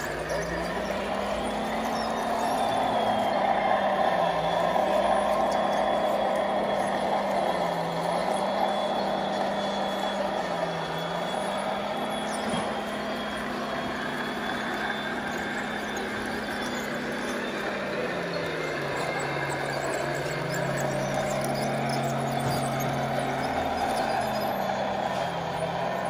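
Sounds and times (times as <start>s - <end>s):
model trucks mechanical hum: 0.0s - 26.0s.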